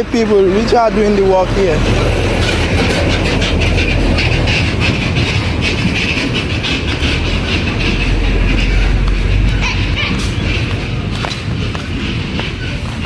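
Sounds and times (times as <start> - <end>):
heavy machinery engine rumble: 0.0 - 13.0.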